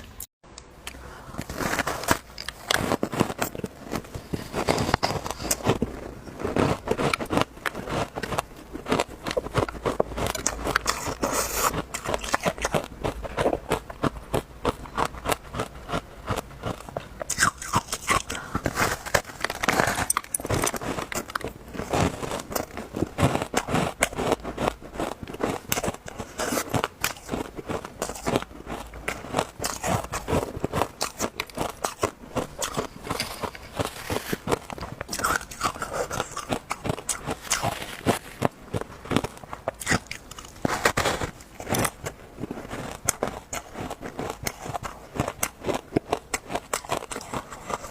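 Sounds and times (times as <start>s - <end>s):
ice being chewed crunching: 0.9s - 47.9s.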